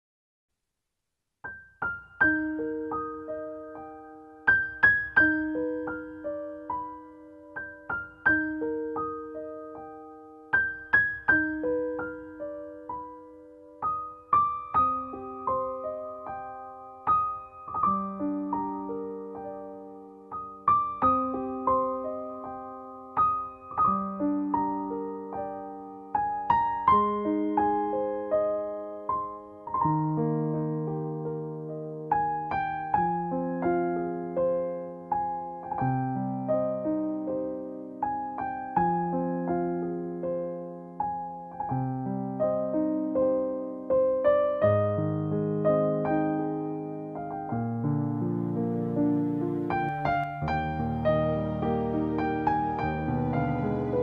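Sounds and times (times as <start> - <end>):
slow gentle piano piece: 1.4 - 54.0.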